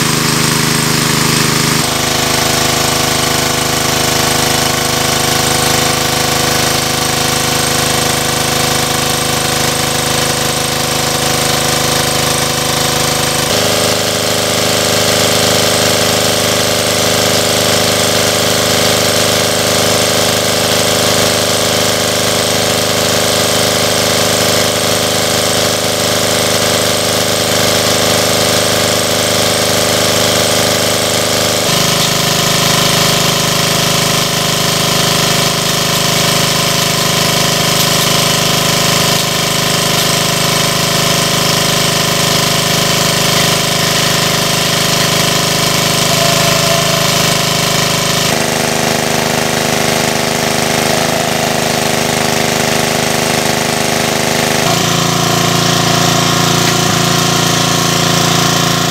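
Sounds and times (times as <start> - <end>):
engine-driven water pump running: 0.0 - 58.9.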